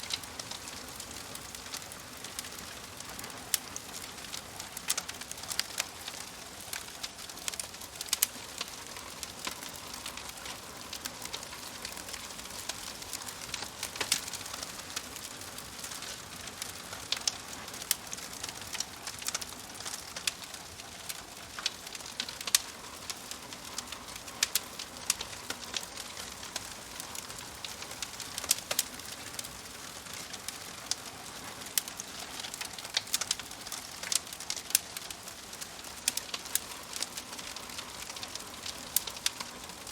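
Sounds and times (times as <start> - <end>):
fire crackling and popping: 0.0 - 39.9
hiss of burning logs: 0.0 - 39.9.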